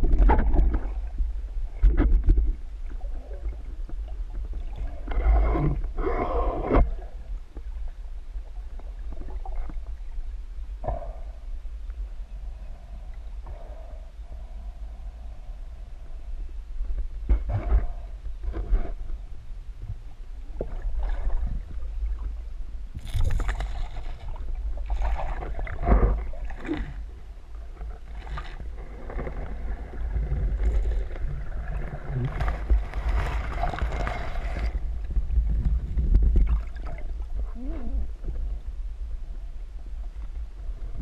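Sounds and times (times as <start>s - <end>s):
low underwater rumble: 0.0s - 41.0s
underwater gurgling and rustling: 0.0s - 41.0s.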